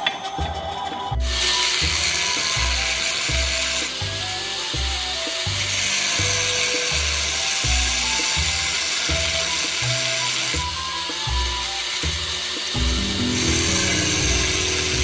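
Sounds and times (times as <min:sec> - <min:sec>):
angle grinder cutting steel: 0:01.2 - 0:15.0
background music with bass beat: 0:01.2 - 0:15.0.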